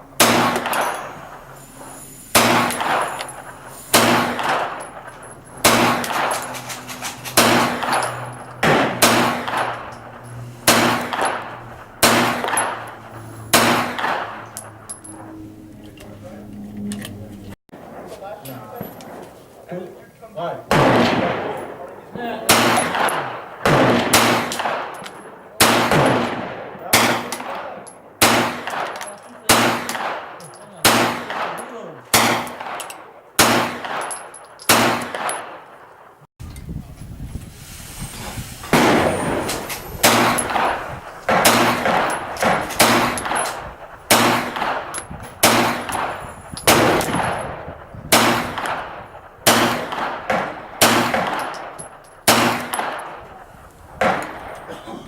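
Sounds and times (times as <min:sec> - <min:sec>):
gunshots with echo: 0:00.0 - 0:15.4, 0:20.6 - 0:36.3, 0:38.7 - 0:54.8.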